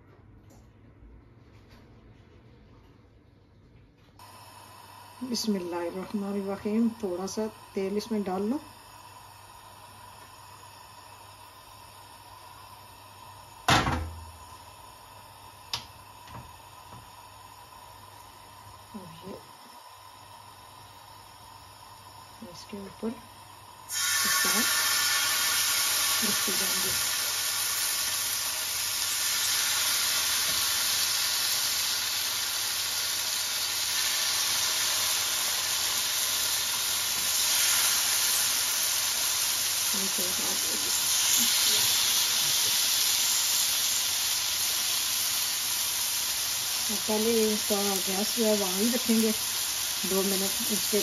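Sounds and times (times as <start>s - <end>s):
gas stove hissing: 4.2s - 51.0s.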